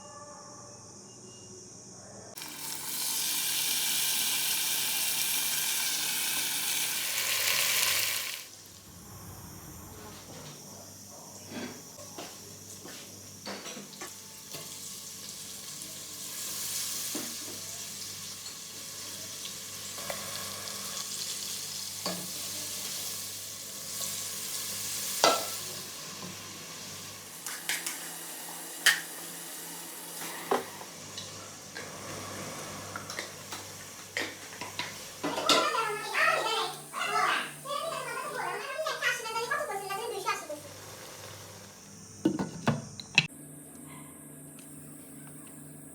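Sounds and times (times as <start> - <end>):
food sizzling in a pan: 2.4 - 42.2.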